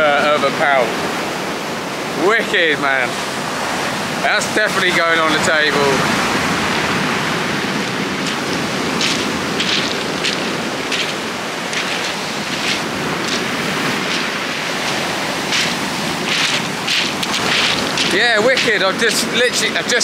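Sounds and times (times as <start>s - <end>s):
sea surf on shingle beach: 0.0s - 20.0s.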